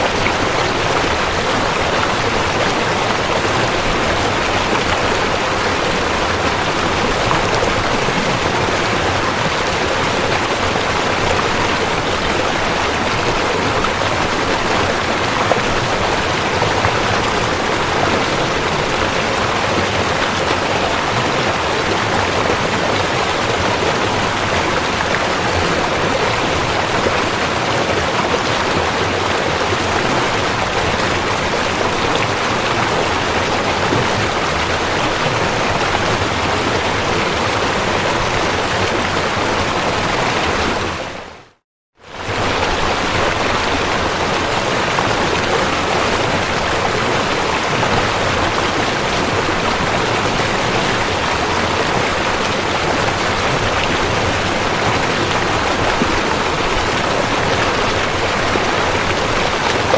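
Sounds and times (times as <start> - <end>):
river water rushing: 0.0 - 41.4, 42.0 - 59.9.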